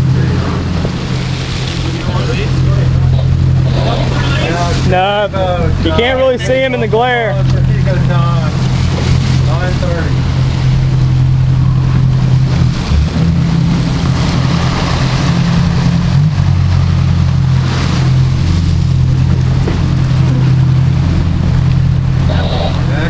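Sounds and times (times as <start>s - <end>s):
boat engines running: 0.0s - 23.0s
water rushing in wake: 0.0s - 23.0s.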